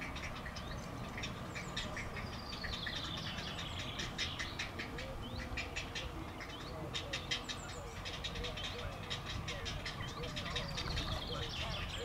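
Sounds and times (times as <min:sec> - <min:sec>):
drawn-out falling bird call: 0:00.0 - 0:12.0
heron chicks ticking calls: 0:00.0 - 0:12.0.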